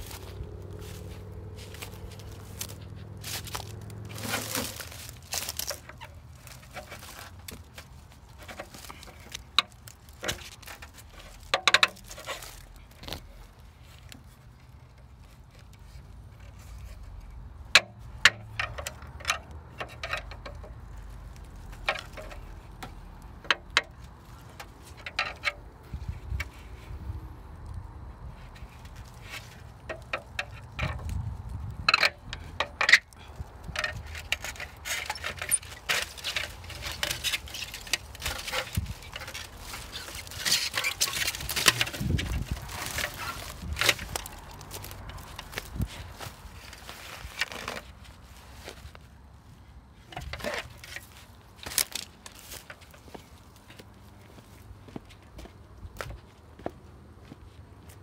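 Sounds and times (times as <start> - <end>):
bramble leaves rustling: 0.0 - 18.2, 19.6 - 55.0
handling rumble: 0.0 - 58.0.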